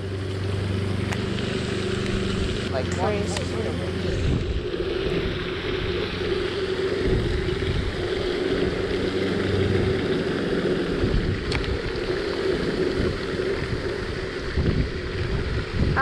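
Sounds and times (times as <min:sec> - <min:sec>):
wind buffeting microphone: 0:00.6 - 0:16.0.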